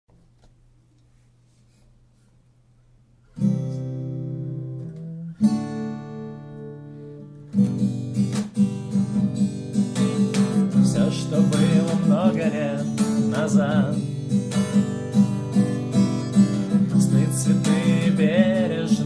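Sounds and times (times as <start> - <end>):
acoustic guitar strumming: 3.3 - 19.0.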